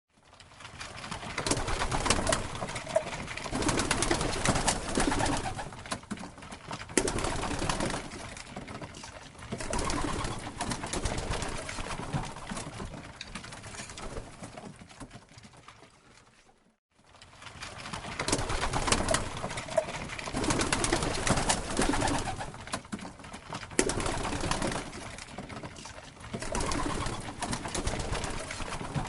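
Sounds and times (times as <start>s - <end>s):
bird wings flapping: 0.2s - 16.5s, 17.1s - 29.0s.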